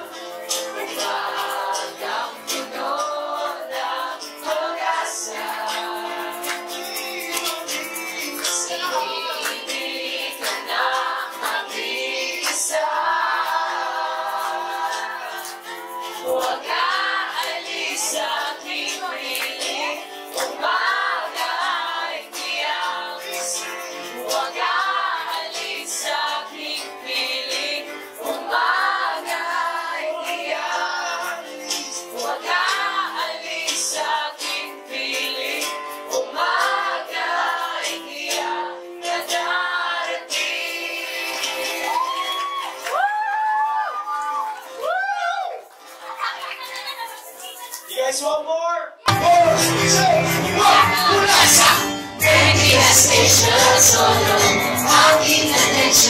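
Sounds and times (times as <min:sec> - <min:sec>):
people singing over music: 0:00.0 - 0:43.9, 0:49.1 - 0:56.0.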